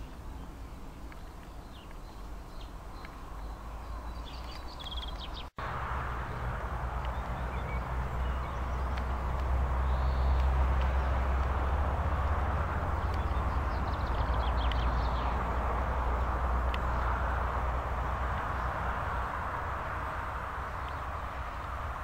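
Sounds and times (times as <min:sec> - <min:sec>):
low outdoor rumble: 0:00.0 - 0:22.0
small birds chirping: 0:00.0 - 0:22.0.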